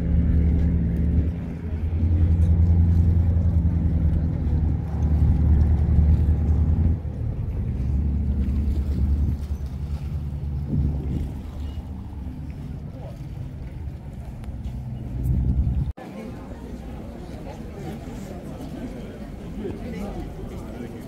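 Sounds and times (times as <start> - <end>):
motorboat engine droning: 0.0 - 21.0.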